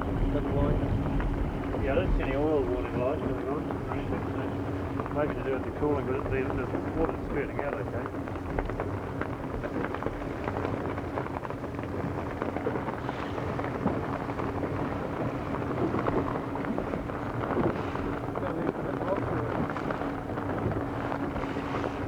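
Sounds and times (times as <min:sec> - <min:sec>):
boat engine running: 0:00.0 - 0:22.0
dense crackle of noise: 0:00.0 - 0:22.0.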